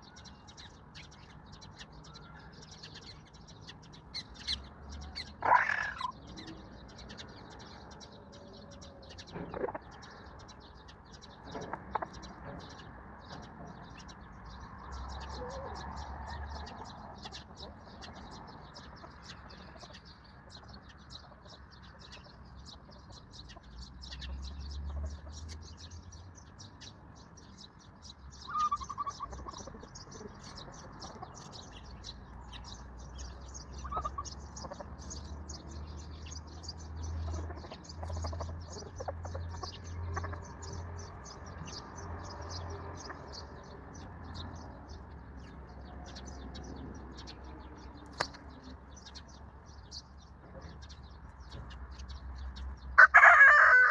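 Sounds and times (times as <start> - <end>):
loud bird calls: 0.0 - 53.9
small birds chirping: 0.0 - 53.9.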